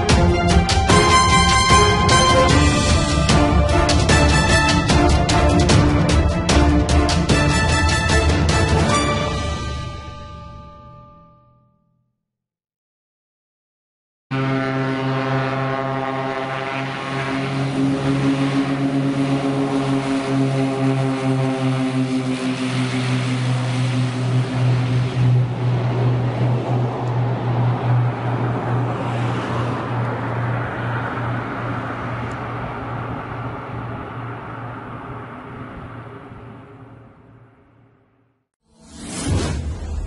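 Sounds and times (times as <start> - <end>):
propeller plane engines roaring: 0.0 - 9.1, 14.3 - 37.9.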